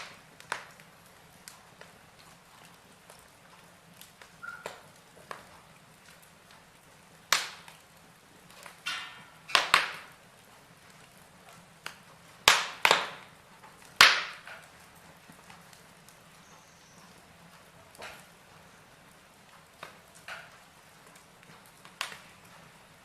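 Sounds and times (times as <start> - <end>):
logs crackling in fireplace: 0.0 - 23.0.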